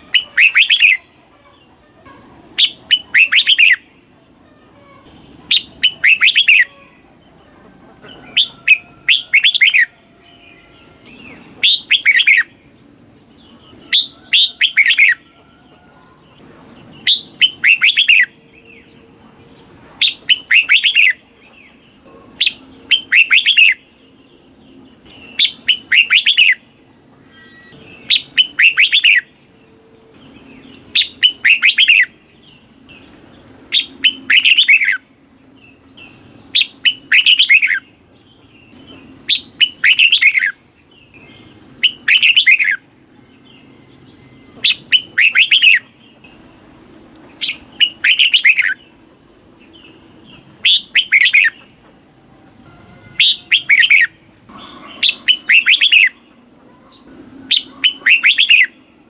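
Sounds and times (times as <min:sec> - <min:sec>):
bulbul singing: 0:00.0 - 0:59.0.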